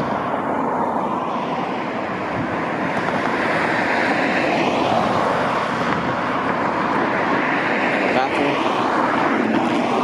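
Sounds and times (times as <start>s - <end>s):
vehicle rumble: 0.0s - 10.0s.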